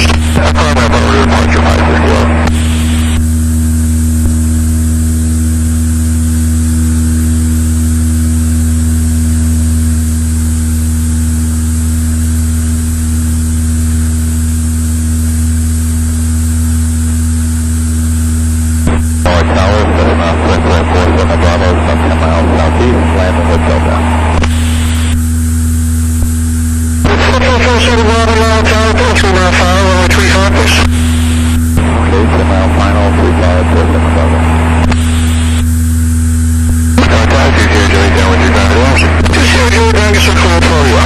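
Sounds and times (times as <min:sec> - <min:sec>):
propeller plane engine droning: 0:00.0 - 0:41.0.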